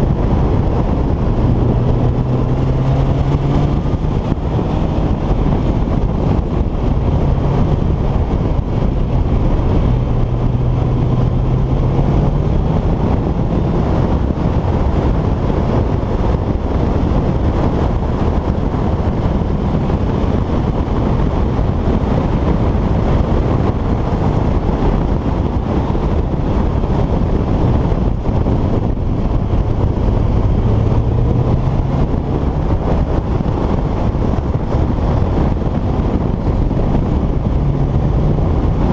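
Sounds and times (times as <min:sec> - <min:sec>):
vehicle engine running: 0:00.0 - 0:38.9
wind rumble on microphone: 0:00.0 - 0:38.9.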